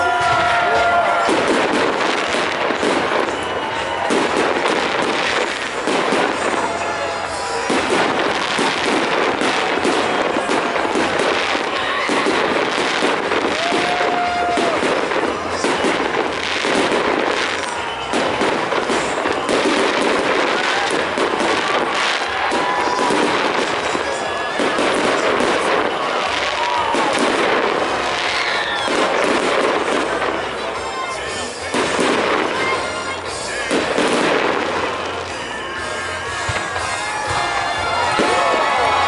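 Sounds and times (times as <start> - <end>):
fireworks crackling and banging: 0.0 - 39.0.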